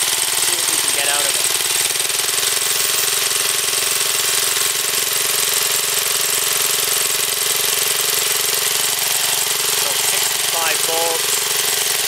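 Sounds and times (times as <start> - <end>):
gas engine running: 0.0 - 12.0.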